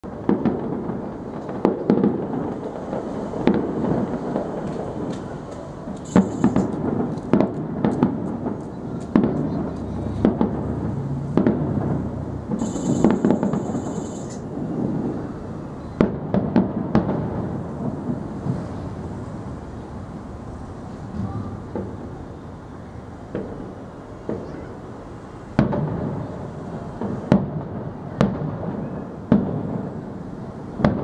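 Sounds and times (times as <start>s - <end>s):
continuous rumble: 0.0s - 31.0s
fireworks booming: 0.0s - 31.0s.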